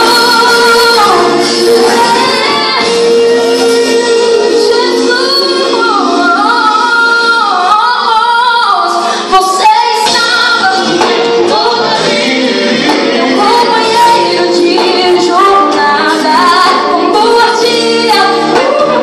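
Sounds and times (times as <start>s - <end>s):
band accompaniment: 0.0s - 19.0s
woman singing gospel song: 0.0s - 19.0s.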